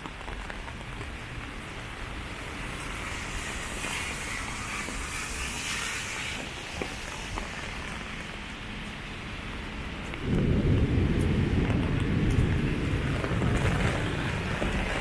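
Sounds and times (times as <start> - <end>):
heavy rain on umbrella and pavement: 0.0 - 15.0.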